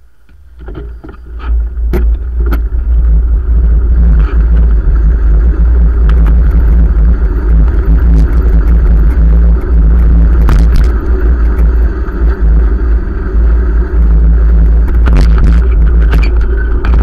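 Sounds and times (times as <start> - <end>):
wind buffeting microphone: 0.4 - 17.0.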